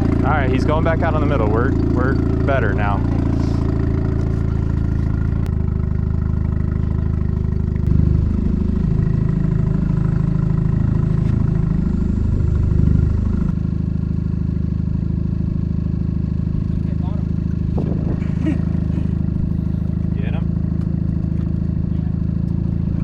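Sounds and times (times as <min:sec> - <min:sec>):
outboard motor running and revving: 0:00.0 - 0:13.6, 0:15.4 - 0:23.0.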